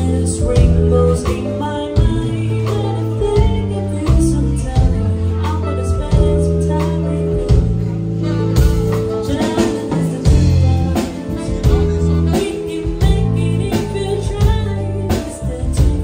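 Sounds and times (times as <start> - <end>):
drum kit beat: 0.0 - 16.0
electric bass notes: 0.0 - 16.0
woman singing: 0.0 - 16.0.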